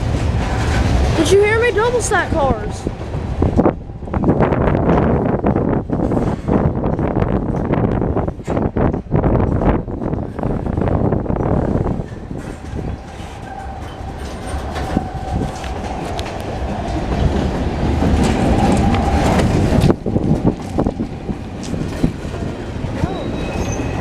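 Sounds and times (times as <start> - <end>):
train wheels clacking over rail joints: 0.0 - 2.3, 2.9 - 24.0.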